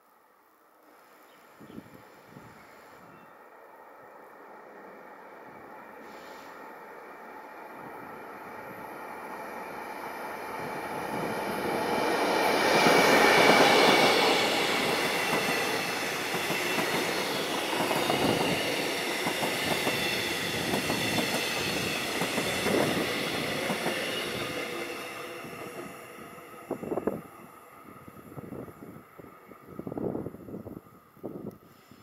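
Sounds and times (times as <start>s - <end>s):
train passing: 1.8s - 31.5s.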